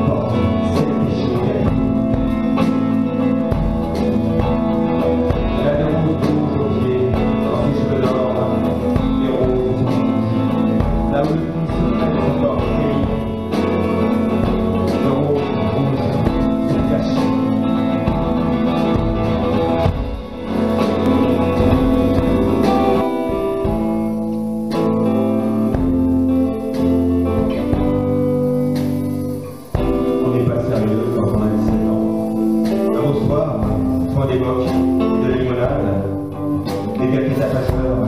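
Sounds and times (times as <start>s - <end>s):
electric guitar playing: 0.0s - 38.0s.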